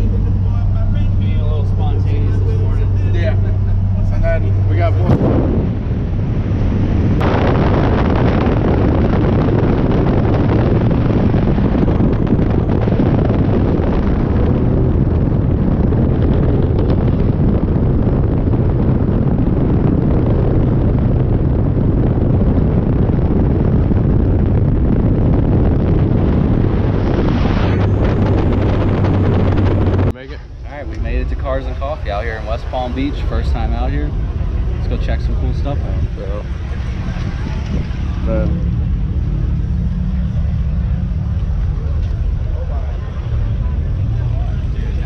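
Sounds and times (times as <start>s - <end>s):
low vehicle drone: 0.0s - 45.0s
wind buffeting microphone: 0.0s - 45.0s.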